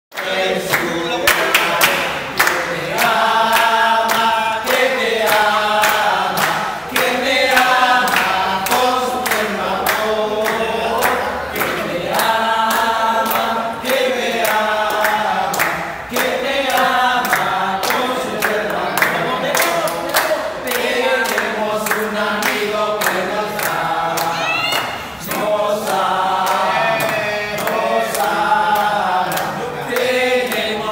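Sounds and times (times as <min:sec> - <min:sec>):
group of people singing: 0:00.1 - 0:30.9
hands clapping: 0:00.1 - 0:30.9.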